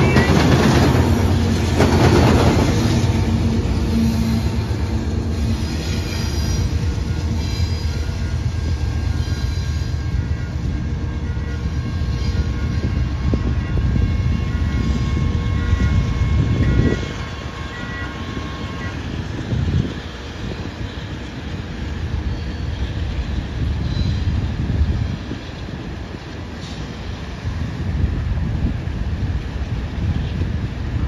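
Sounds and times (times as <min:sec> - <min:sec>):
diesel locomotive engines droning: 0:00.0 - 0:31.0
train wheels on rails: 0:00.0 - 0:31.0.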